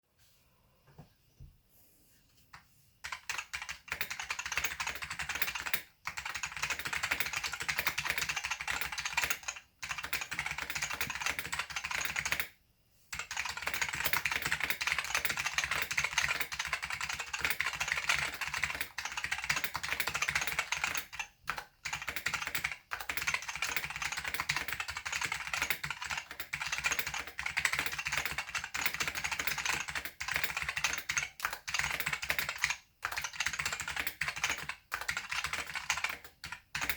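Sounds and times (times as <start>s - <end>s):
fast keyboard typing: 3.0s - 36.9s.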